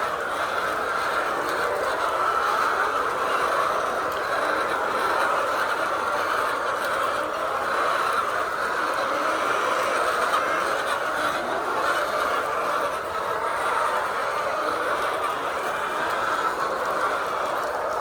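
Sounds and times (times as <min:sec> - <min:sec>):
hens clucking: 0:00.0 - 0:18.0.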